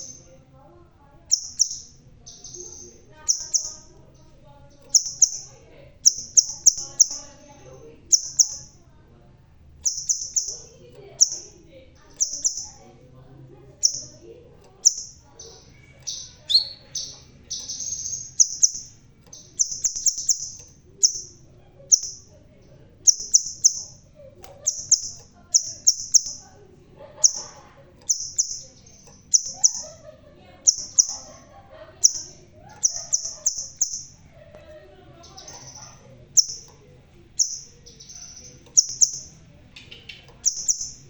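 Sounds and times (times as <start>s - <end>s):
bird high-pitched chips: 0.0s - 0.4s, 1.2s - 8.8s, 9.8s - 12.9s, 13.8s - 34.3s, 35.2s - 41.0s
bird twittering: 0.0s - 0.4s, 1.2s - 8.8s, 9.8s - 12.9s, 13.8s - 26.6s, 27.2s - 34.3s, 35.2s - 41.0s.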